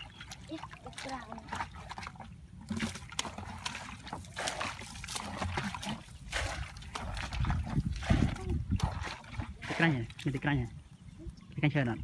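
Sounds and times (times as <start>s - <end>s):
water splashing from bucket: 0.0s - 10.6s.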